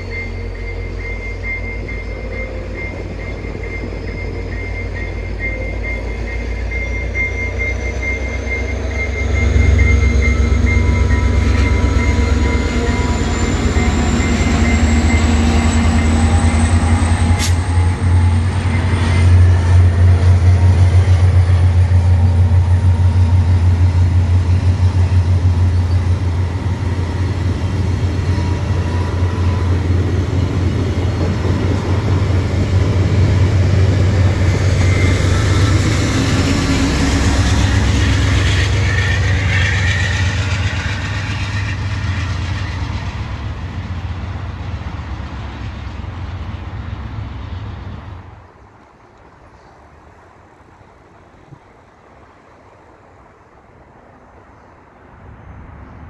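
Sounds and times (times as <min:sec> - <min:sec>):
train wheels rumbling on rails: 0:00.0 - 0:54.4.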